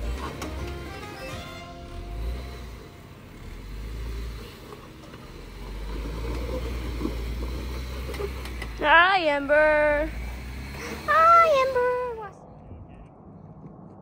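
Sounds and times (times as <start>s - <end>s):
off-road engine deep rumble: 0.0s - 14.0s.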